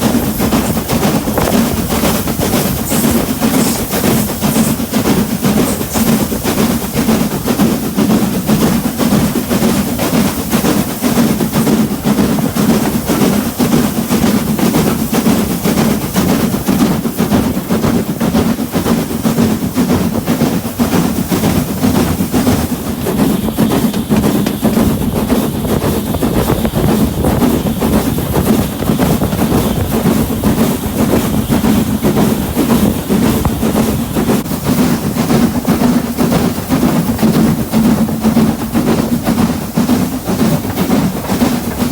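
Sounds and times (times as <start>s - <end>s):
train rumbling: 0.0s - 41.9s
wheels rattling on rails: 0.0s - 41.9s.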